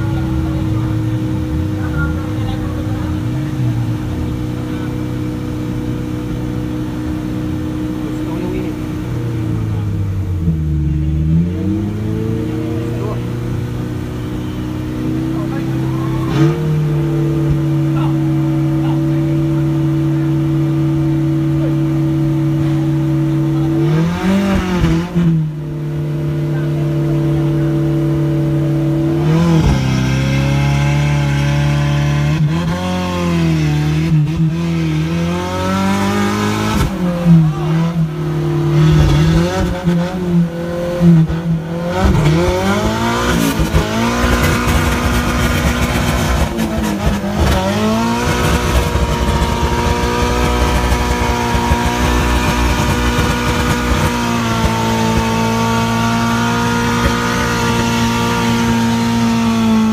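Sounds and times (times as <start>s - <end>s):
truck engine revving under load: 0.0s - 25.7s, 26.4s - 59.9s.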